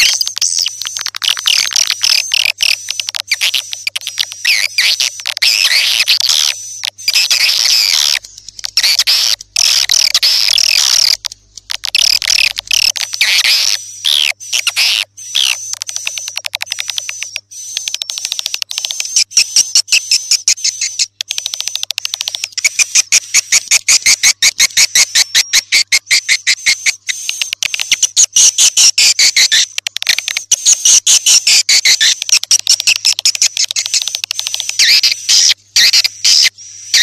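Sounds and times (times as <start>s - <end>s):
rapid dry clicks: 0.0s - 37.0s
shrill twittering chirps: 0.0s - 37.0s.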